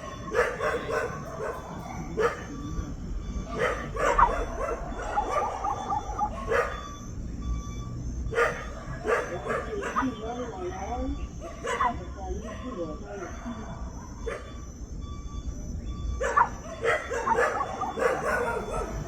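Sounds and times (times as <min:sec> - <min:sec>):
dog barking: 0:00.0 - 0:07.1, 0:08.2 - 0:14.8, 0:16.1 - 0:19.0.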